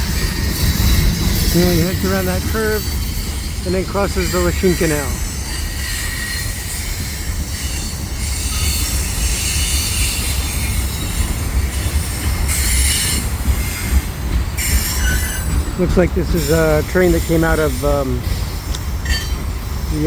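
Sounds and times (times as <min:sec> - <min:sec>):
deep train rumble: 0:00.0 - 0:20.0
train wheels squealing on rails: 0:00.0 - 0:20.0.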